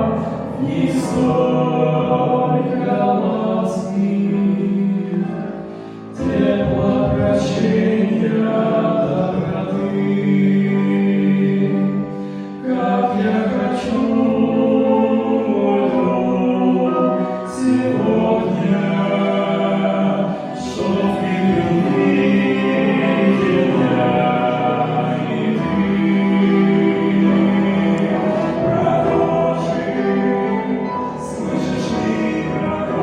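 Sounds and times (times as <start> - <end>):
voices singing together: 0.0 - 33.0.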